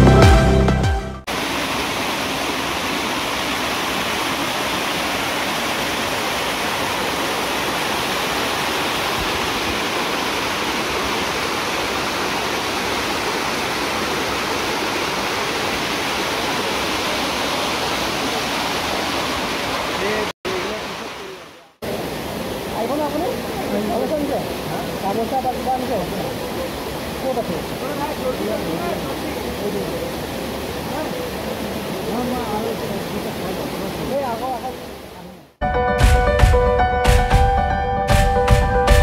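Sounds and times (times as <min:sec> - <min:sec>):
waterfall rushing over rocks: 0:01.2 - 0:35.6.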